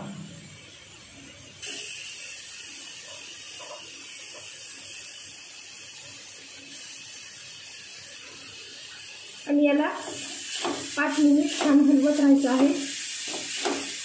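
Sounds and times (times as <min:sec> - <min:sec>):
carrots sizzling in hot fat: 0:00.1 - 0:14.0.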